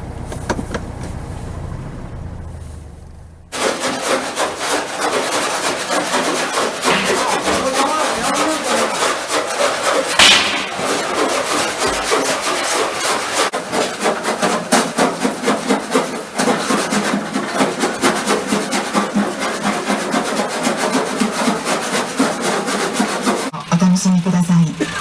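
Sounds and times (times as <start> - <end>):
hand scraping paint off steel: 0.0 - 23.5.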